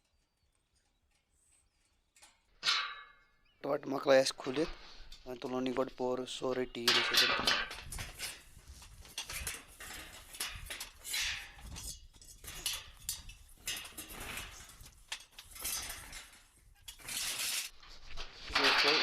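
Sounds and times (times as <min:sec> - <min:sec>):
tin roofing sheets rattling: 0:01.7 - 0:19.0.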